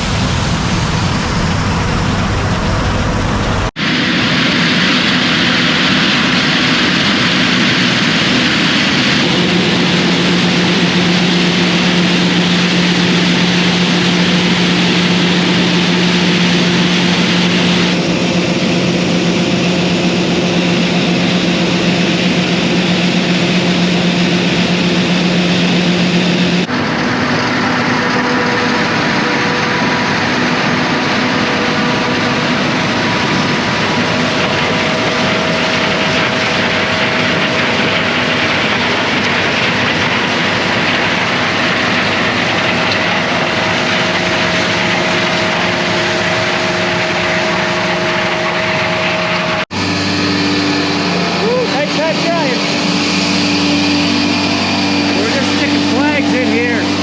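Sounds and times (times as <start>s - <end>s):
farm machinery roaring: 0.0s - 57.0s.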